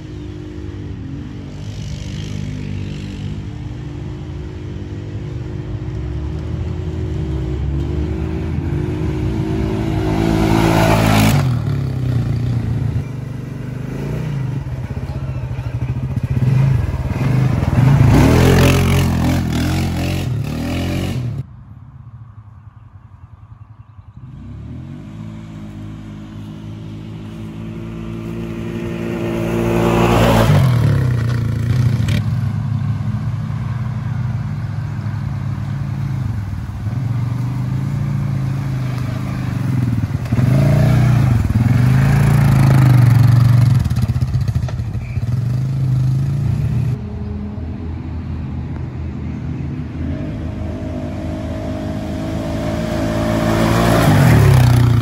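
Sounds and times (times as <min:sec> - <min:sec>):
atv engine revving: 0:00.0 - 0:21.4, 0:24.1 - 0:47.0, 0:49.8 - 0:55.0.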